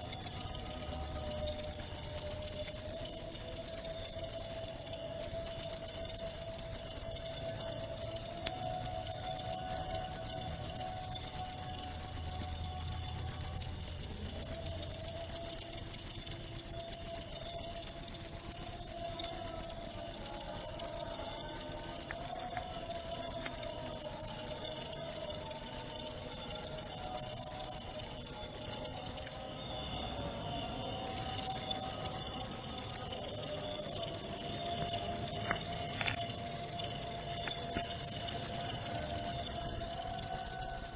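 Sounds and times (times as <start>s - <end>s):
cricket trilling: 0.0s - 40.9s.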